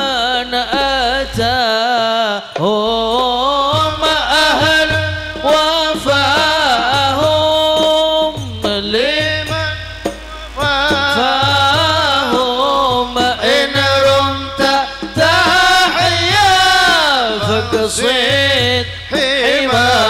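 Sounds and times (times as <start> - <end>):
men singing into microphones: 0.0 - 20.0.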